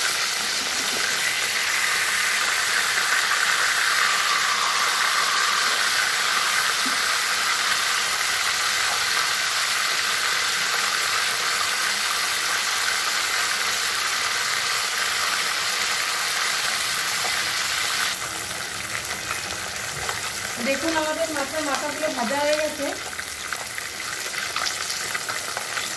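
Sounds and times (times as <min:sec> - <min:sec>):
fish frying in hot oil: 0:00.0 - 0:25.9.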